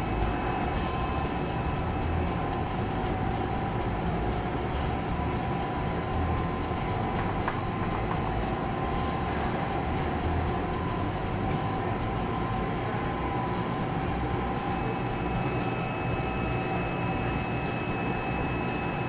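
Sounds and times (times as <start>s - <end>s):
machinery humming and rumbling: 0.0s - 19.0s.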